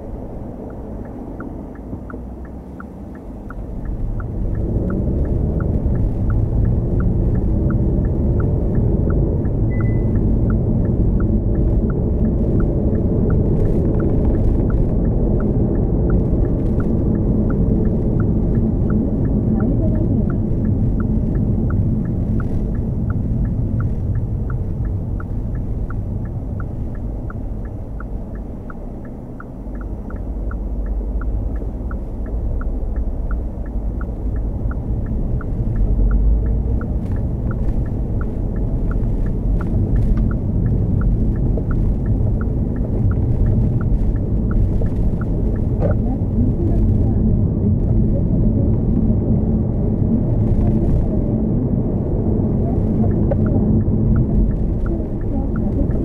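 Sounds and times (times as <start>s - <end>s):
light regular ticking: 0.0s - 49.0s, 52.2s - 56.0s
car road and tyre noise: 0.0s - 56.0s.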